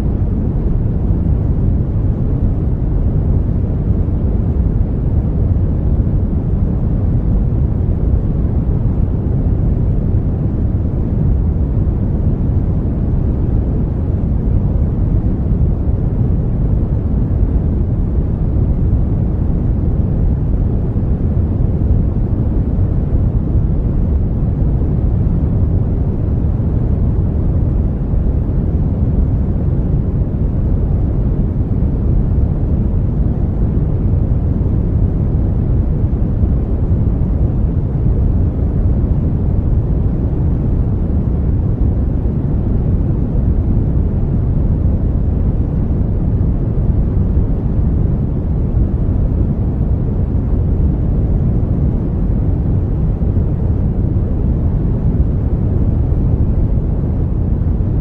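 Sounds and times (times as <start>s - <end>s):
brown noise: 0.0s - 58.0s.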